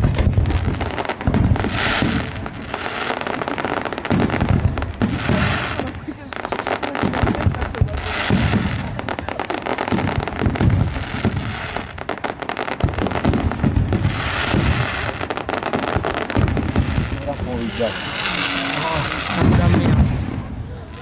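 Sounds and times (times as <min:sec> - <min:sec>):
fireworks and firecrackers banging: 0:00.0 - 0:21.0.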